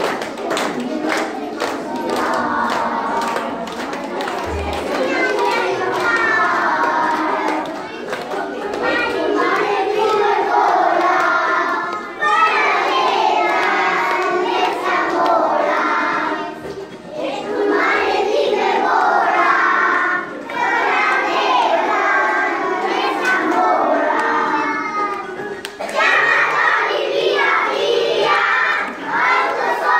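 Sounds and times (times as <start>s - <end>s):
children singing: 0.0s - 29.9s.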